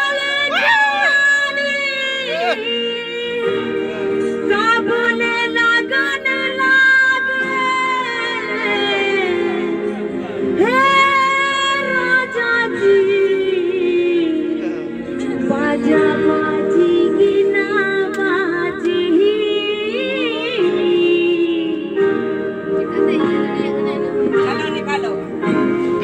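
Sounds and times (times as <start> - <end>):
woman singing into microphone: 0.0 - 22.5.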